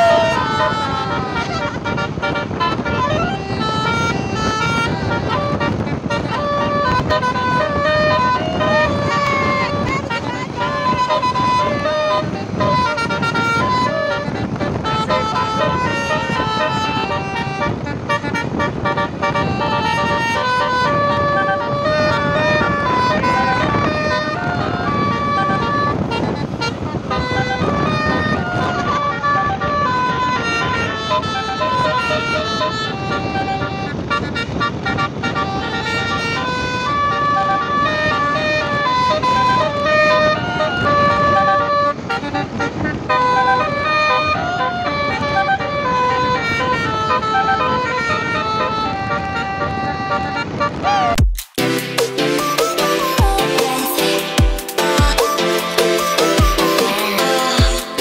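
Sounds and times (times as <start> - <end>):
musical bus horn melody: 0.0 - 58.0
traffic and engine noise: 0.0 - 58.0.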